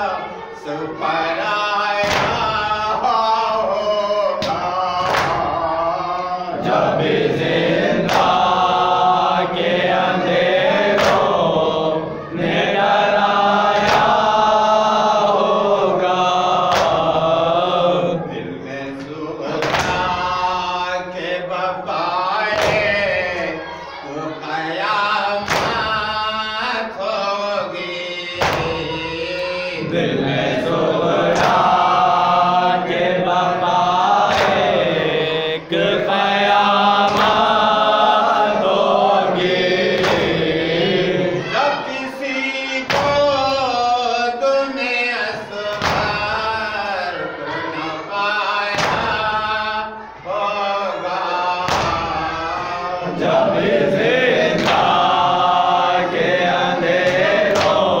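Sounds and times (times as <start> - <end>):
lead reciter on a microphone: 0.0 - 58.0
men chanting in unison: 0.0 - 58.0.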